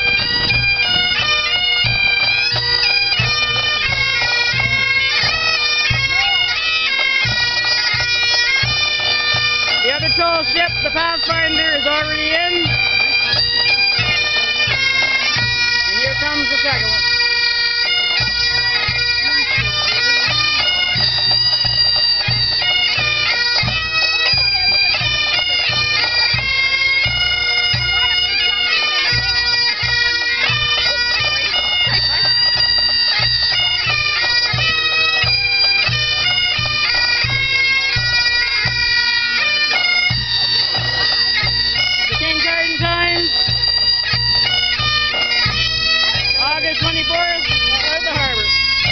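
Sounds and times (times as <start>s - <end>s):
bagpipe band playing: 0.0s - 48.9s.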